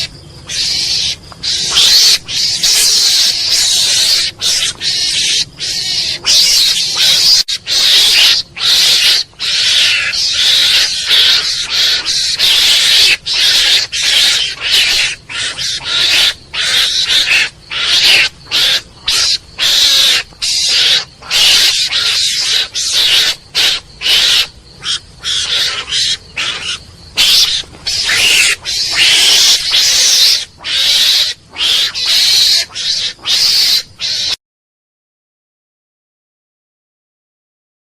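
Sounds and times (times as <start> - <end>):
mongoose harsh hissy calls: 0.0 - 34.4.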